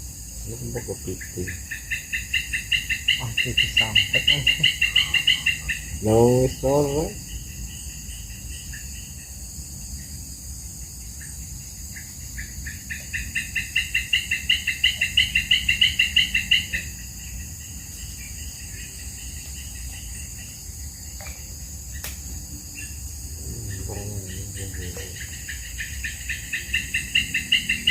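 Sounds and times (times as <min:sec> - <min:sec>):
high insect chorus: 0:00.0 - 0:27.9.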